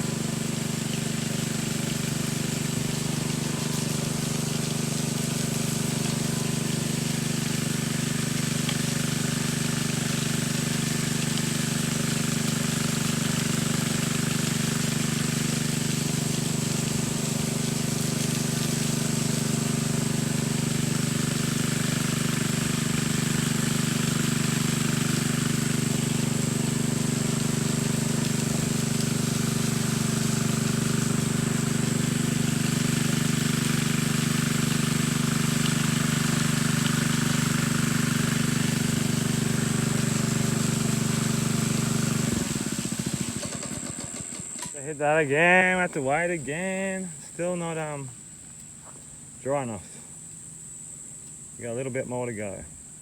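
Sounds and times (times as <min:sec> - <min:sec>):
small petrol engine running: 0:00.0 - 0:45.8.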